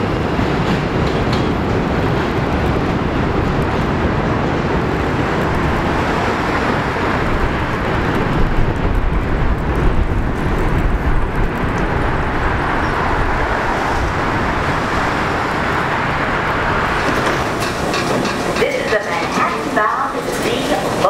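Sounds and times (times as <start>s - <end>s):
low uneven city rumble: 0.0s - 21.0s.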